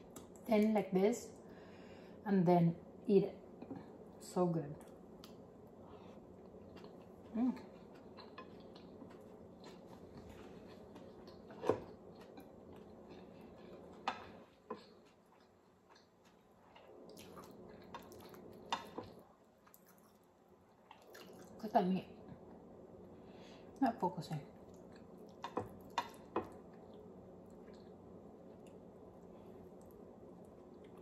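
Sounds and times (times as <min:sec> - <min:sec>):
quiet chewing: 0:04.8 - 0:21.6, 0:22.2 - 0:31.0.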